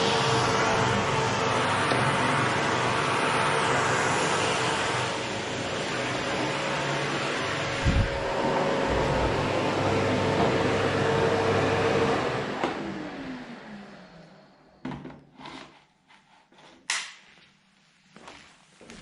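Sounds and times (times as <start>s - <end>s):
vacuum cleaner running: 0.0s - 15.6s.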